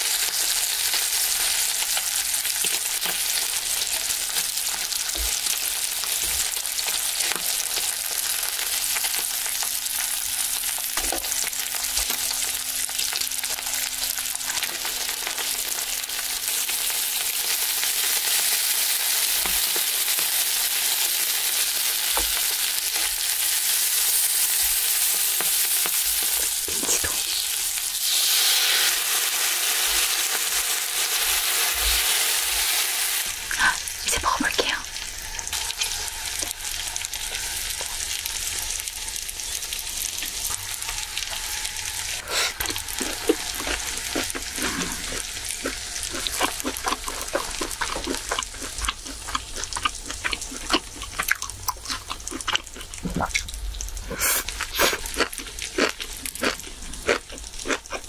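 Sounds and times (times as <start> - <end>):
meat sizzling on grill pan: 0.0 - 34.0, 35.0 - 58.0.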